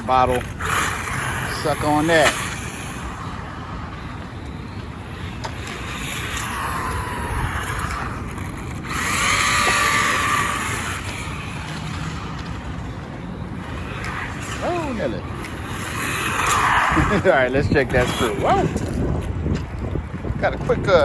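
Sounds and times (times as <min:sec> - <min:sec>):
tyre and wind noise: 0:00.0 - 0:21.0
electric motor whine: 0:00.1 - 0:19.3.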